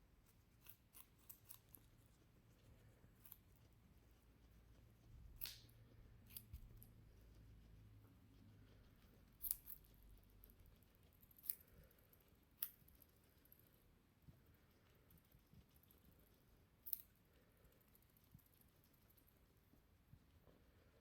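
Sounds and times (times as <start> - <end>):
guinea pig crunching carrot: 0.0 - 21.0.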